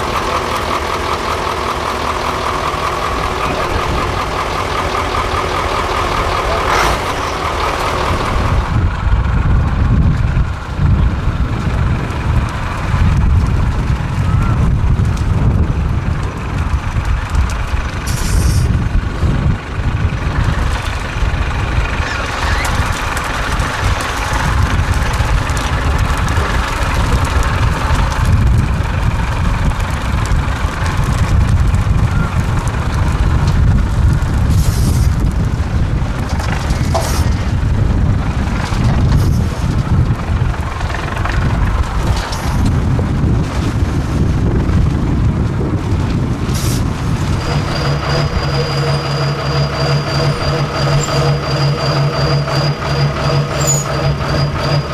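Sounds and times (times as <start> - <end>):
diesel truck engine revving: 0.0 - 54.9.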